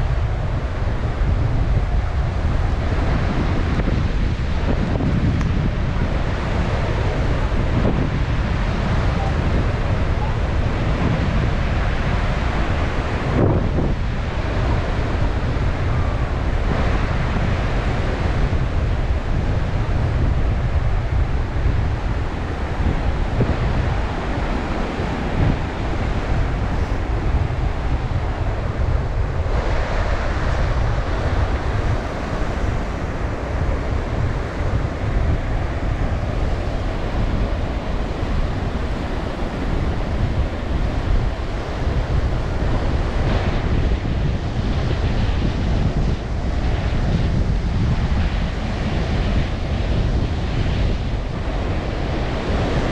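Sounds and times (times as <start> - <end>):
surf breaking on shore: 0.0 - 52.9
wind buffeting microphone: 0.0 - 52.9.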